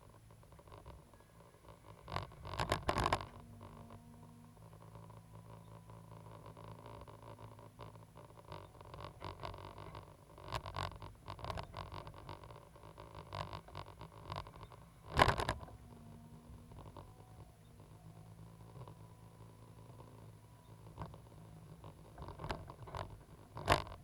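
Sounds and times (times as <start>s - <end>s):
excavator engine humming: 0.0s - 24.0s.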